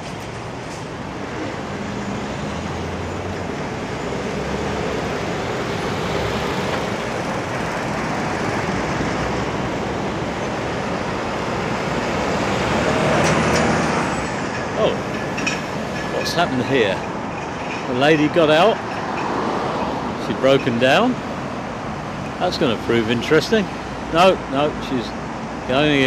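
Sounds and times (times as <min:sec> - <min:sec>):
diesel lorry engines humming: 0:00.0 - 0:26.0
road noise: 0:00.0 - 0:26.0.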